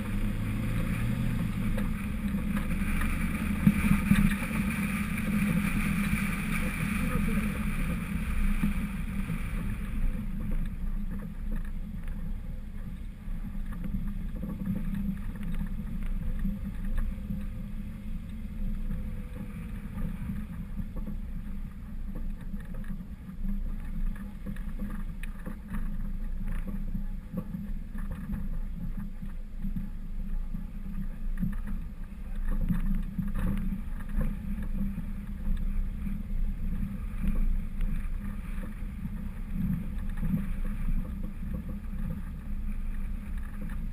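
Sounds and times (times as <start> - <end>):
vehicle engine driving off-road: 0.0 - 43.9.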